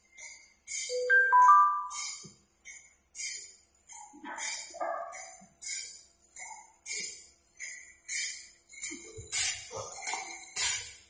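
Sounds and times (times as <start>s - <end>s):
background music with jingling beat: 0.0s - 11.0s.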